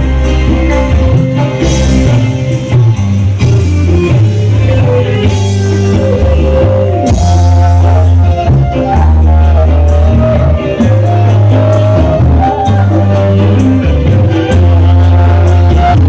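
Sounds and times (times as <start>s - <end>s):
loud music over sound system: 0.0s - 16.0s.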